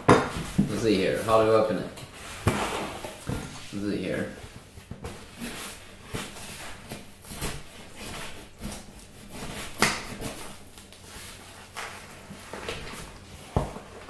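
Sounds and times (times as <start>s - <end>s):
knife scraping cardboard: 2.2s - 13.8s.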